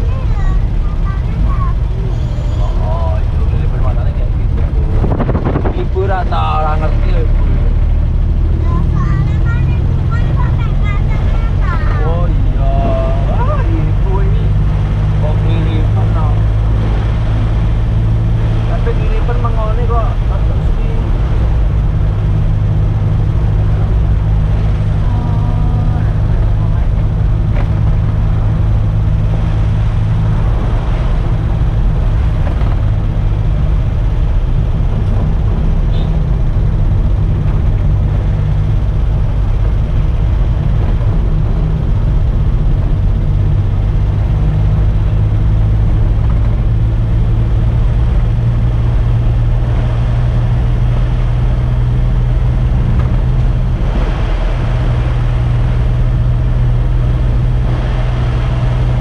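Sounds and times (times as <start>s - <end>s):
road noise: 0.0s - 59.0s
truck engine running: 0.0s - 59.0s.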